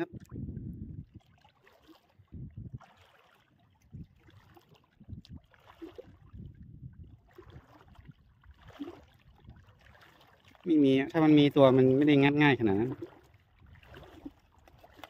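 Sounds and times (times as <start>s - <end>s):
shallow water sloshing and splashing: 0.0s - 15.0s.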